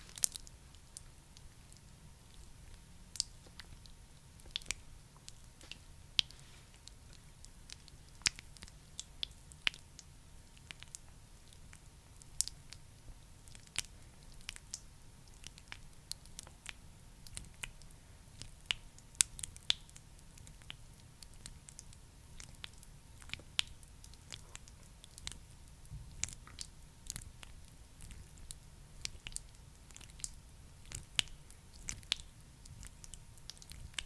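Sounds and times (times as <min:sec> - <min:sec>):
crackling clicks of cream: 0:00.0 - 0:34.0
wet sticky squishing: 0:00.1 - 0:34.0.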